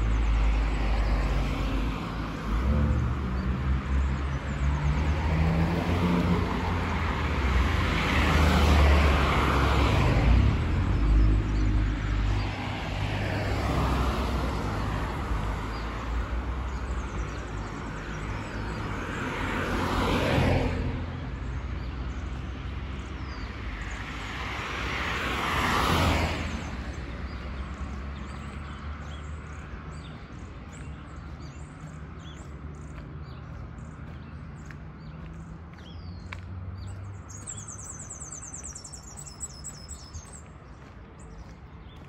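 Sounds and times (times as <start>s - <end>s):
cars passing: 0.0s - 42.0s
distant traffic rumble: 0.0s - 42.0s.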